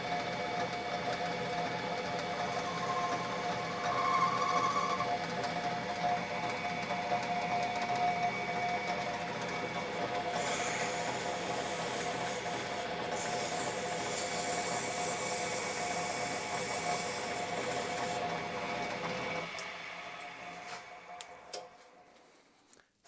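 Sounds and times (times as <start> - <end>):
metal lathe whining: 0.0 - 21.6.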